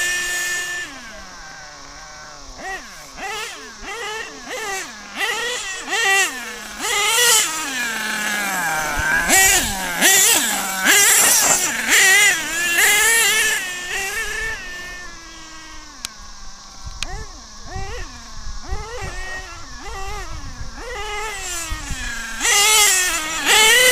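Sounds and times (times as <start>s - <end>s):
model engine revving to high whine: 0.0s - 23.9s.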